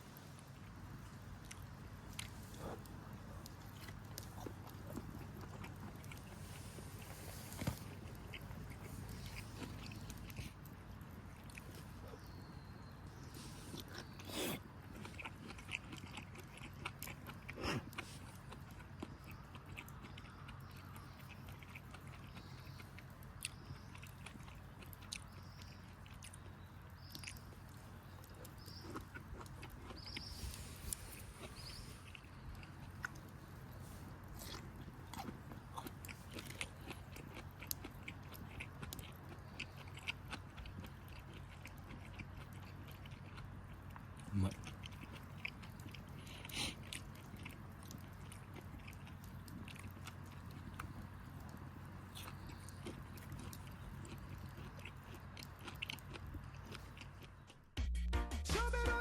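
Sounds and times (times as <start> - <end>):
chewing and crunching food: 0.0 - 57.8
low steady hum: 0.0 - 59.0.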